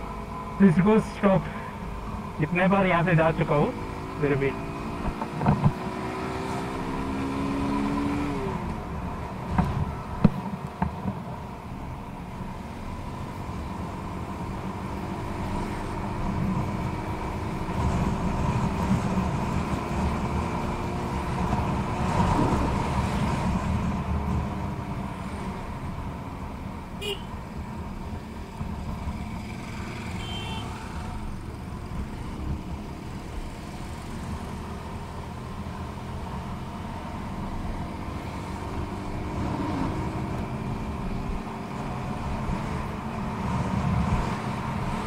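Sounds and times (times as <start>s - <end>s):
wind and road rumble: 0.0s - 45.0s.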